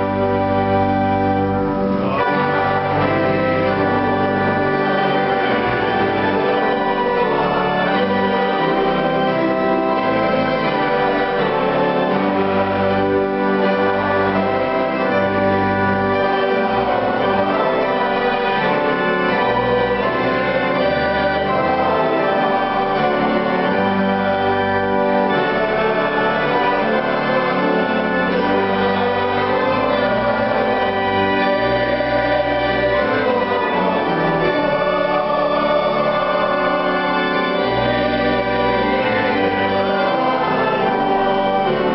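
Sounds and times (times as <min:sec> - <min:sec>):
keyboard chords and bass notes: 0:00.0 - 0:41.9
violin: 0:00.0 - 0:41.9.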